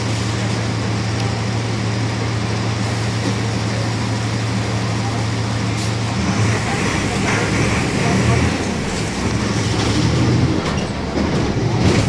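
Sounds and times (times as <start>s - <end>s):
bus engine low drone: 0.0s - 12.0s
constant rushing noise: 0.0s - 12.0s.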